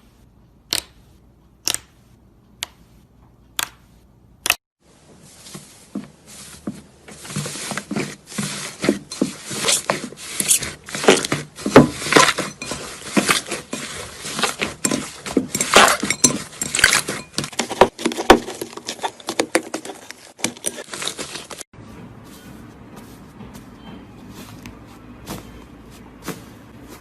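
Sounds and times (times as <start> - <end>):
soft handling: 4.9 - 27.0.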